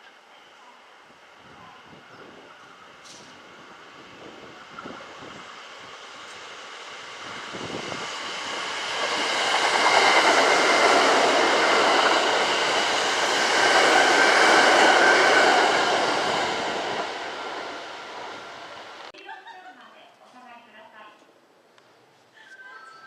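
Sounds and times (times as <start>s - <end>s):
electric train passing: 0.0s - 19.1s.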